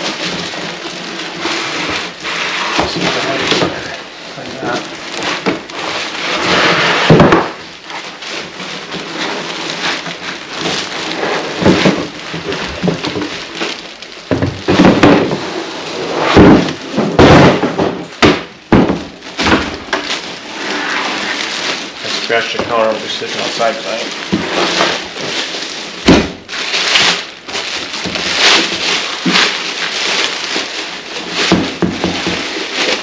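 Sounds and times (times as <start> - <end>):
cardboard and foam rubbing: 0.0 - 18.3, 19.1 - 33.0
plastic bag crinkling: 0.0 - 33.0.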